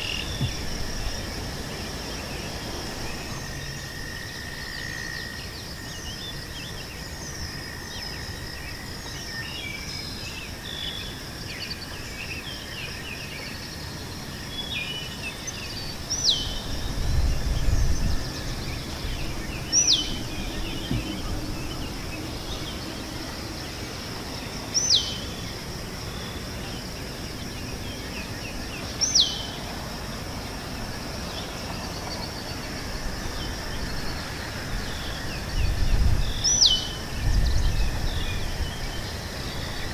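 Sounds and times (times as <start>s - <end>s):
birds chirping: 0.0s - 39.9s
high insect drone: 0.0s - 39.9s.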